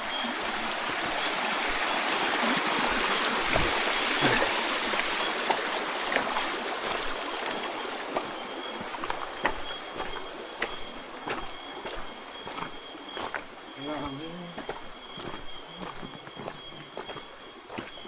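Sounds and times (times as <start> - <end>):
creek water rushing over rocks: 0.0 - 17.8.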